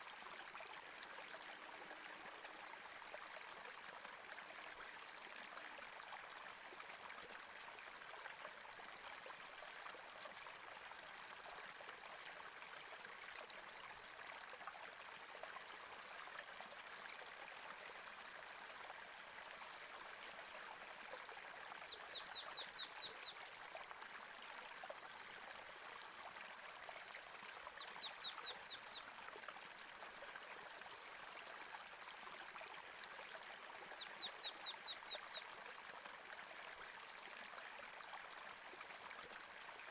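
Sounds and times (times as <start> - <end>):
faint flowing water: 0.0 - 39.9.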